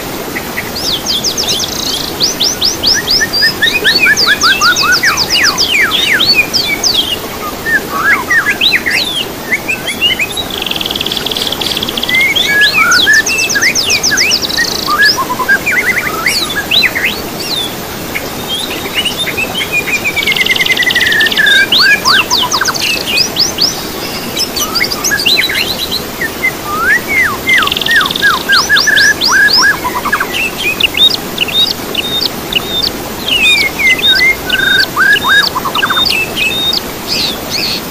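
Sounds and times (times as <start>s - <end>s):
steady low hiss: 0.0s - 37.9s
songbird singing: 0.4s - 37.9s.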